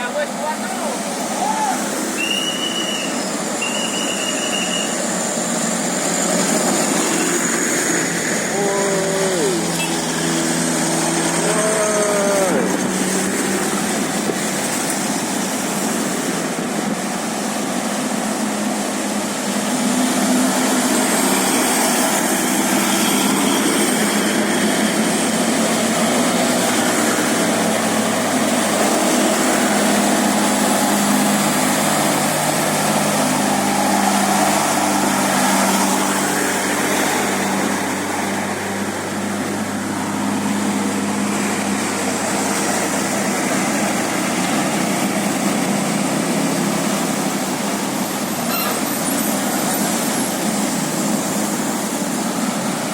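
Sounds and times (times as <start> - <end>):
road noise: 0.0 - 52.9
vehicle engines running: 0.0 - 52.9.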